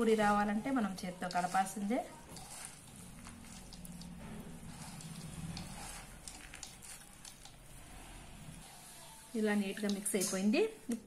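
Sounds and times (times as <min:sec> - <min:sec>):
puffed rice crackling rustle: 0:00.0 - 0:10.9.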